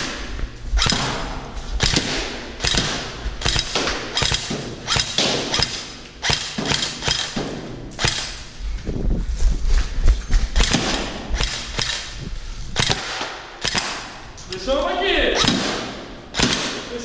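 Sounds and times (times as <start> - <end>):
airsoft rifle shots: 0.0 - 8.6, 10.6 - 17.0.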